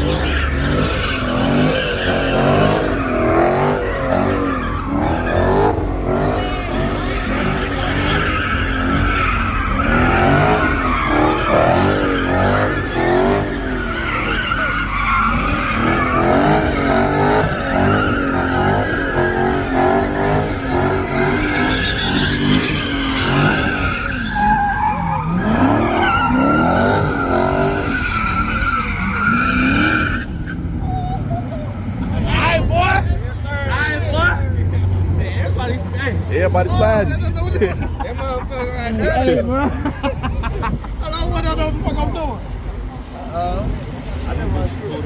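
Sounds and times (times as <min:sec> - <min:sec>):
car engine revving: 0:00.0 - 0:39.7
tires squealing: 0:00.0 - 0:45.0.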